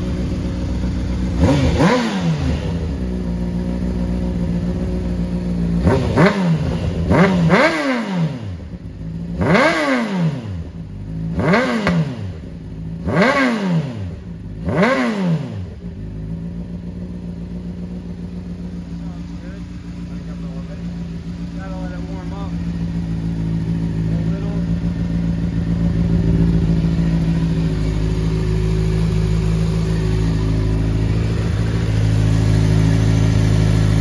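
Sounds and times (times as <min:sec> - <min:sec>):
motorcycle engine idling and revving: 0:00.0 - 0:34.0.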